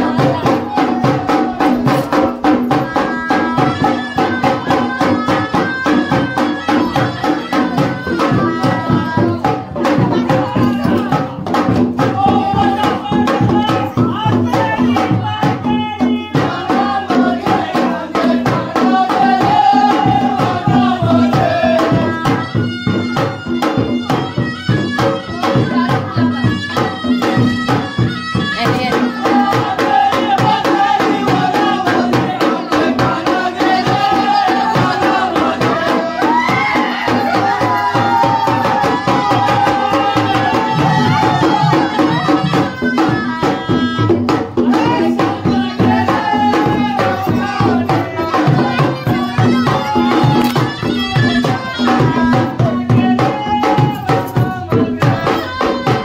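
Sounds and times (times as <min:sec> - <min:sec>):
fast dense drumming: 0:00.0 - 0:56.0
person singing a melody: 0:00.0 - 0:56.0.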